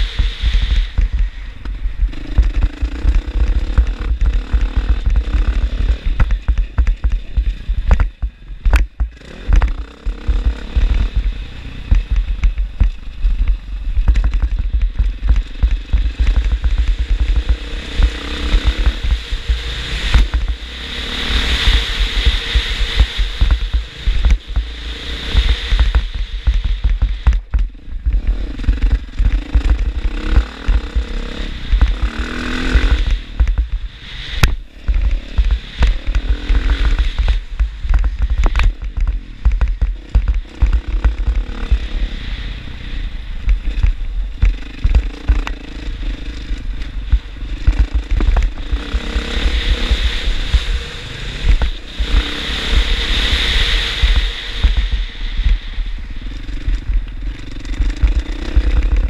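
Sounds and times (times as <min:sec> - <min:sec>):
dirt bike engine revving: 0:00.0 - 0:59.0
wind buffeting microphone: 0:00.0 - 0:59.0.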